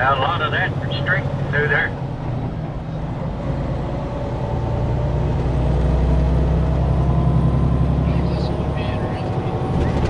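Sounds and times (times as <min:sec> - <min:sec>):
diesel truck engine droning: 0:00.0 - 0:10.0
road noise: 0:00.0 - 0:10.0.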